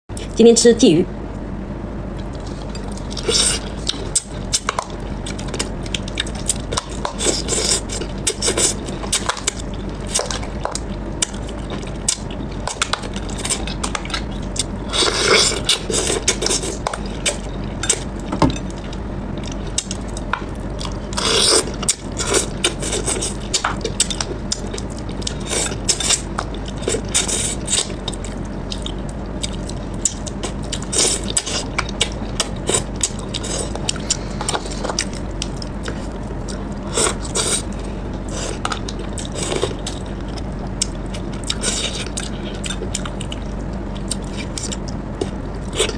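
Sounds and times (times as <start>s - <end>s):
steady low hum: 0.1s - 45.9s
person chewing: 2.2s - 45.9s.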